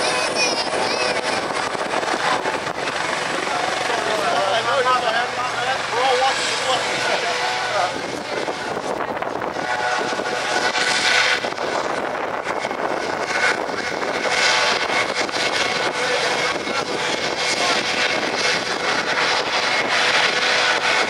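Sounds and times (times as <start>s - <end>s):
helicopter engine whine: 0.0s - 21.0s.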